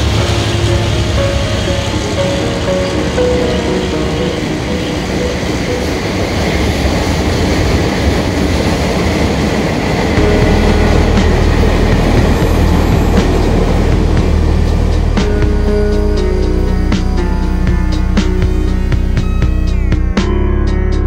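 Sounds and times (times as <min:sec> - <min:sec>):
train running on rails: 0:00.0 - 0:20.1.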